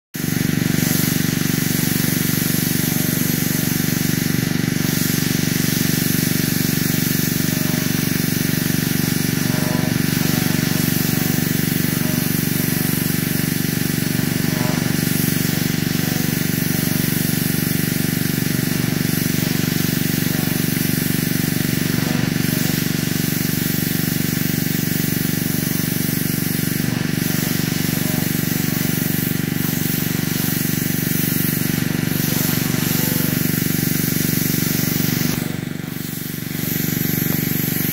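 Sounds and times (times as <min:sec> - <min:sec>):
pressure washer motor hum: 0:00.1 - 0:37.9
water jet hissing on wood: 0:00.2 - 0:37.9.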